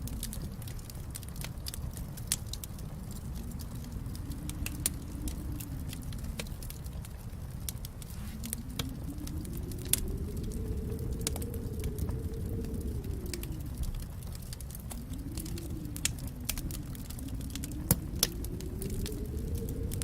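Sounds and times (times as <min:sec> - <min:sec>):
faint hum: 0:00.0 - 0:20.0
wood fire crackling and popping: 0:00.0 - 0:20.0.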